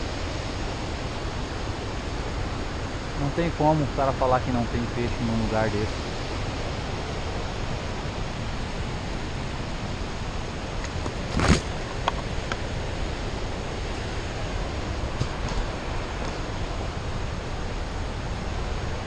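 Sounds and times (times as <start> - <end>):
river water flowing over rocks: 0.0 - 19.0.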